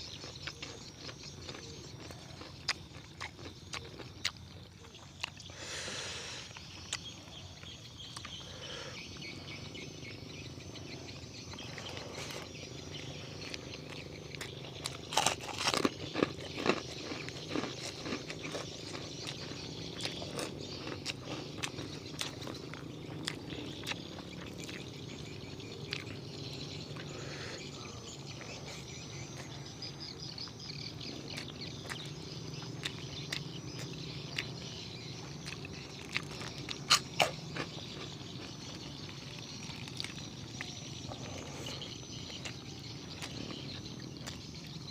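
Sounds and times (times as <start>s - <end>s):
chewing and crunching: 0.0s - 44.9s
faint high chirping: 0.0s - 44.9s
open-air field ambience: 0.0s - 44.9s.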